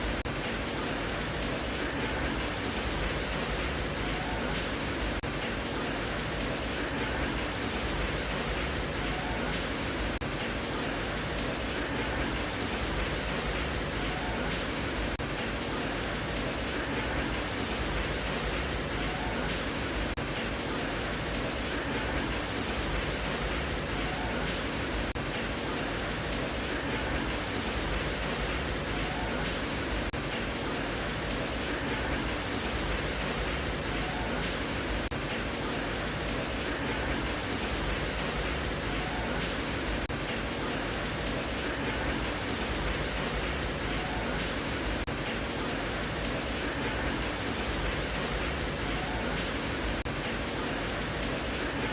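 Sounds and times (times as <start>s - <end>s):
steady rain: 0.0s - 51.9s.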